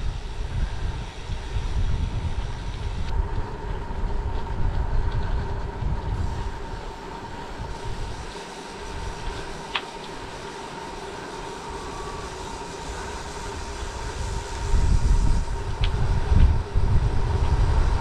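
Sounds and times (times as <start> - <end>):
bicycle rolling on road: 0.0 - 18.0
wind rumble on microphone: 0.0 - 18.0.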